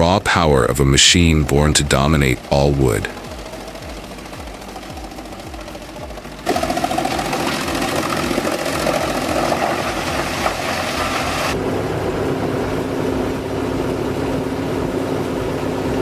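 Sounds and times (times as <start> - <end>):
wood chipper engine running: 1.8 - 14.7.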